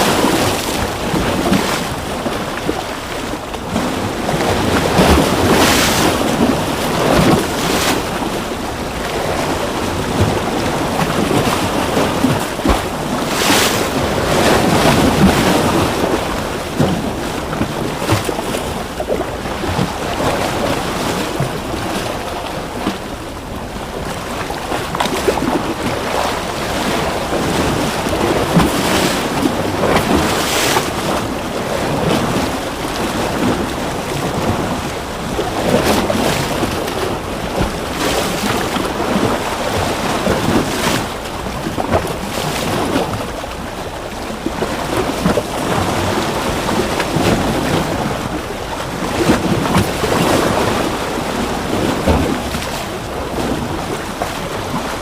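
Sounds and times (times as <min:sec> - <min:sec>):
ocean waves splashing: 0:00.0 - 0:55.0.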